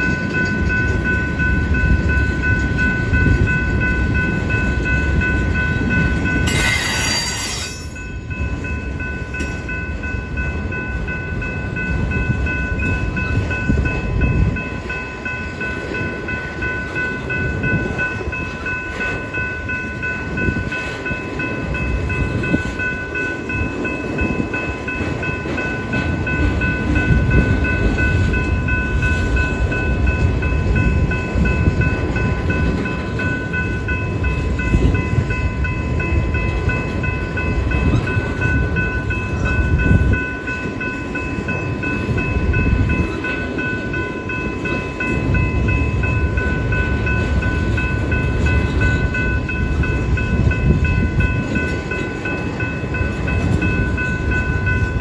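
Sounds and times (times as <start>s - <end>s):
crossing warning bell ringing: 0.0s - 55.0s
train wheels rumbling on rail: 0.0s - 55.0s.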